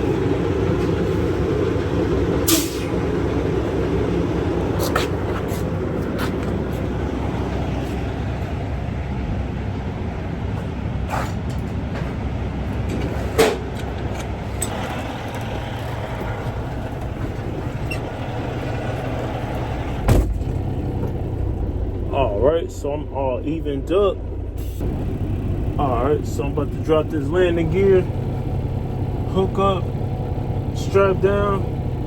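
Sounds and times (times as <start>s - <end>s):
truck diesel engine idling: 0.0s - 32.0s.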